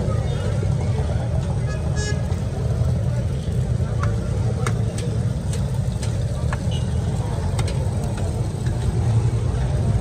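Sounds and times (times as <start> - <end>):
low street rumble: 0.0 - 10.0.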